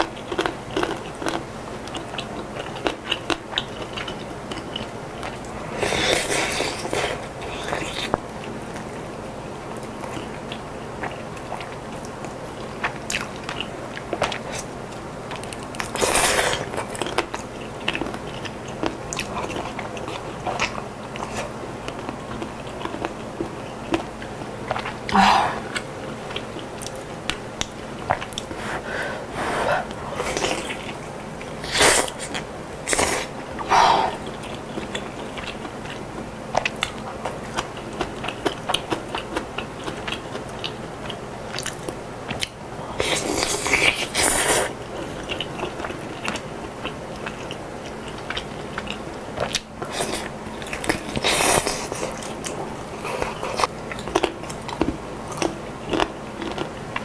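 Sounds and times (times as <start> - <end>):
wet chewing: 0.0 - 9.0, 9.7 - 57.0.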